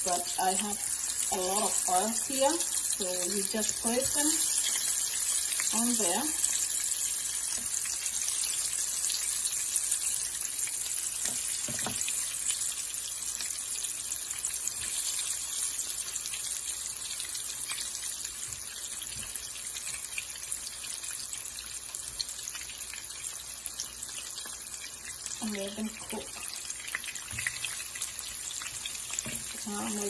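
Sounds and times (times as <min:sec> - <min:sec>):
potatoes sizzling in hot oil: 0:00.0 - 0:30.0.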